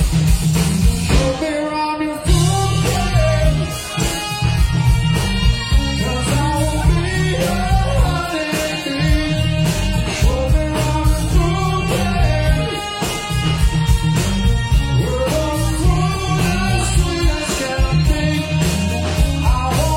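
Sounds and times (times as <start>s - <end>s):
rock band playing: 0.0s - 19.9s
person singing: 1.1s - 13.9s, 14.5s - 19.9s.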